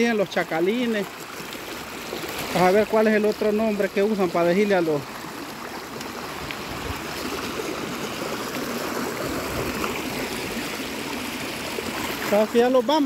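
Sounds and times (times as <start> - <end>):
river water rushing over stones: 0.0 - 13.0.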